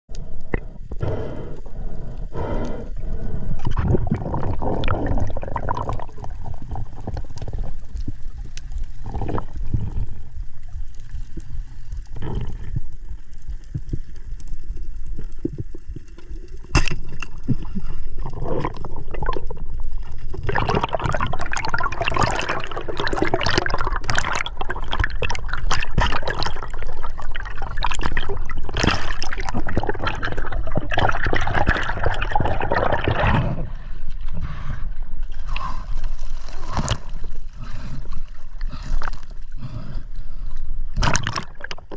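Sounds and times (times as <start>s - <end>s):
underwater gurgling: 0.1s - 41.9s.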